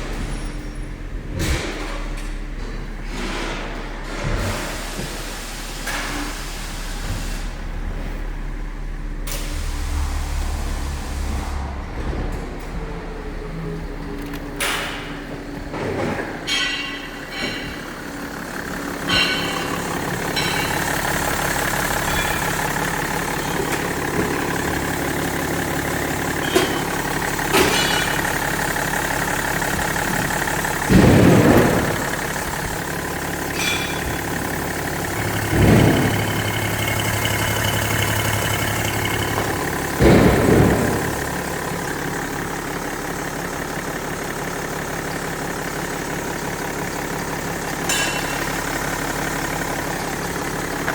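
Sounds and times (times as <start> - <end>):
diesel engine idling and revving: 0.0 - 50.9.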